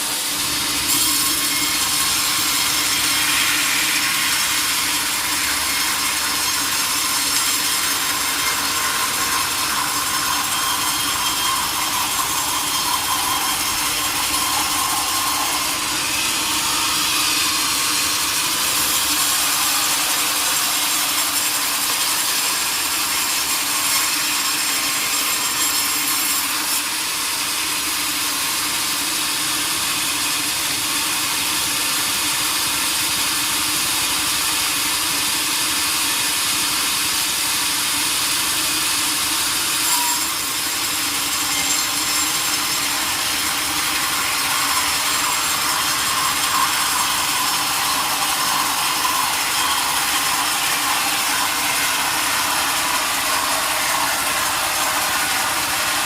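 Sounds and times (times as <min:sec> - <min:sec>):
saw blade cutting through log: 0:00.0 - 0:30.8, 0:33.2 - 0:56.0.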